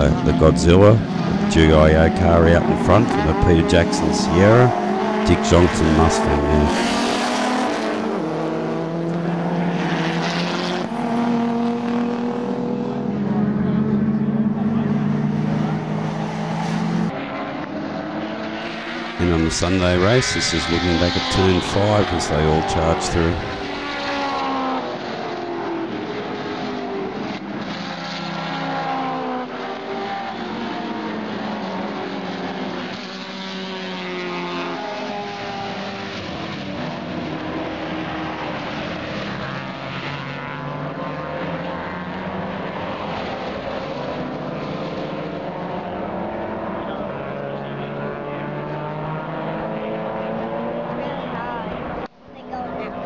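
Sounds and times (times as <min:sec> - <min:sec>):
racing cars passing in a pack: 0:00.0 - 0:53.0.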